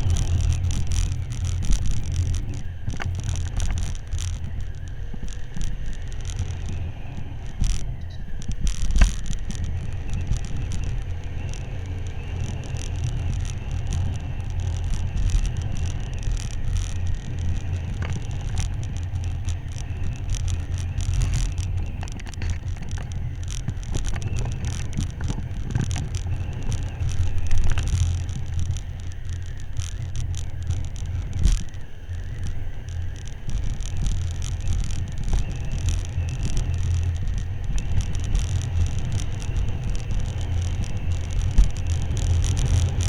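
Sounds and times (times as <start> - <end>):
motorcycle engine rumbling: 0.0 - 43.0.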